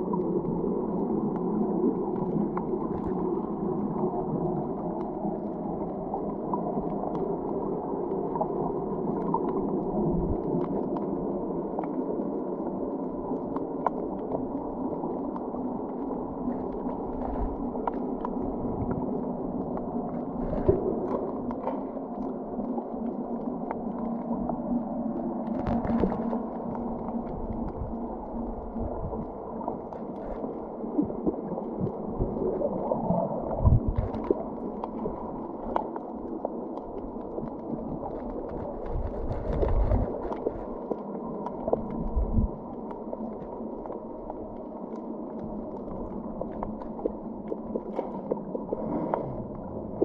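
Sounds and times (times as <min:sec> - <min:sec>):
faint clicks and crackles: 0:00.0 - 0:50.0
muffled underwater rush: 0:00.0 - 0:50.0.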